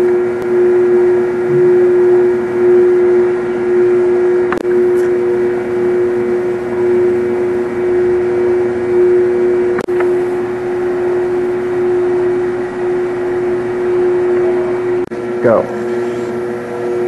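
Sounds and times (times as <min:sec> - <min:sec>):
conveyor motors humming: 0:00.0 - 0:17.0.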